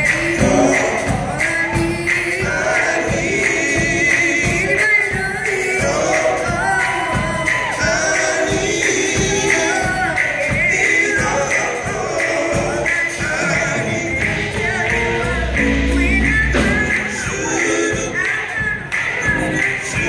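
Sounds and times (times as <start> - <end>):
band with guitar keyboard drums: 0.0 - 20.0
group singing into microphones: 0.0 - 20.0.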